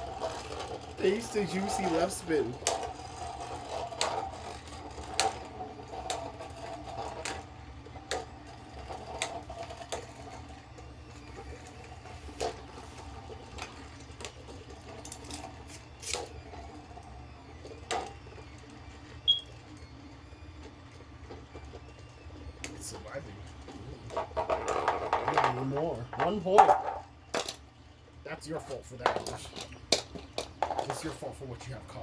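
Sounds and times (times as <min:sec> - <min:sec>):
spinning tops whirring: 0:00.0 - 0:31.8.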